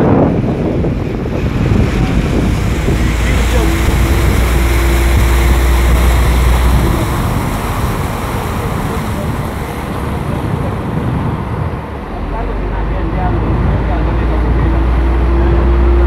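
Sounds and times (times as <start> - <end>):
boat engine rumble: 0.0 - 16.0
water rushing: 0.0 - 16.0.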